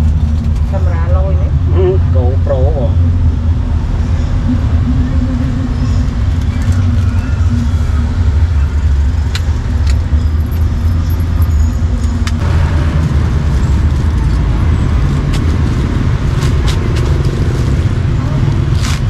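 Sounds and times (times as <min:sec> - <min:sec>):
motor traffic rumbling: 0:00.0 - 0:19.0.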